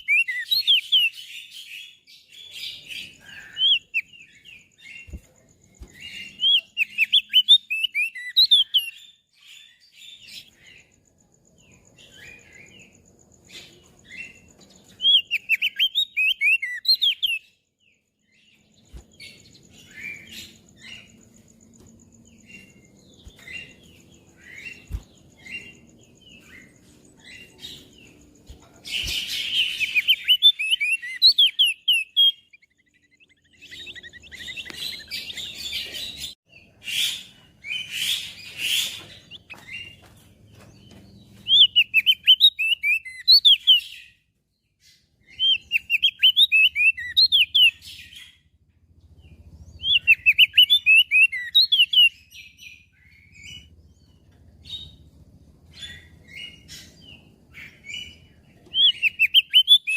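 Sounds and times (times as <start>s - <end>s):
bird chirping and singing: 0.0s - 44.2s, 44.8s - 59.9s.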